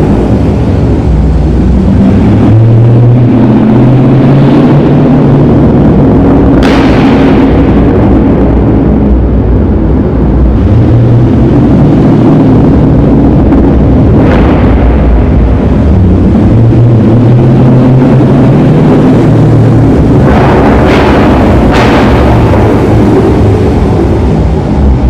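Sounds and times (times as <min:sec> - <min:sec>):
loud car engine exhaust: 0:00.0 - 0:25.0
sharp exhaust pops: 0:00.0 - 0:25.0.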